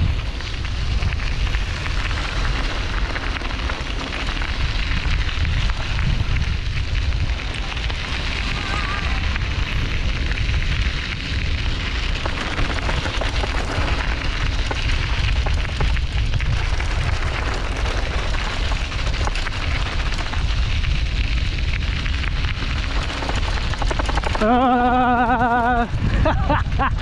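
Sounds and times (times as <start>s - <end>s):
wind buffeting microphone: 0.0s - 27.0s
mountain bike clattering over rocks: 0.3s - 25.5s.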